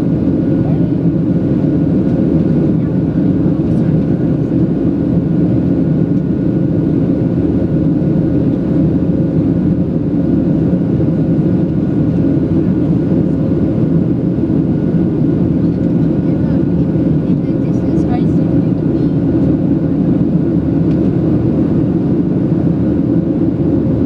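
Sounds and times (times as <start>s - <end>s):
jet engines deep rumble: 0.0s - 24.0s.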